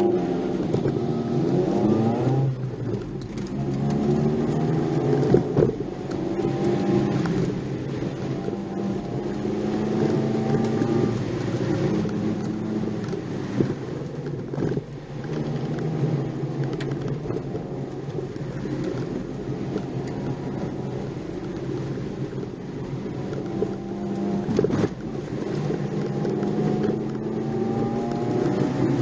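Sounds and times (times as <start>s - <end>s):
car engine running under load: 0.0s - 29.0s
tyre and road noise: 0.0s - 29.0s.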